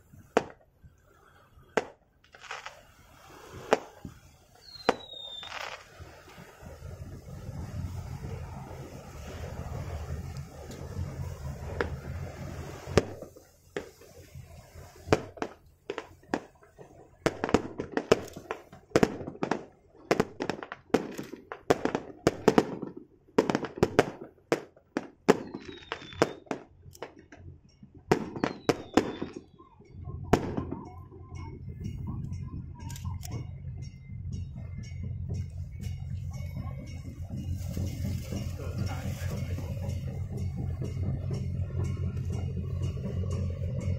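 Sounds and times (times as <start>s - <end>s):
firecrackers banging: 0.0s - 43.9s
low engine rumble: 0.0s - 43.9s.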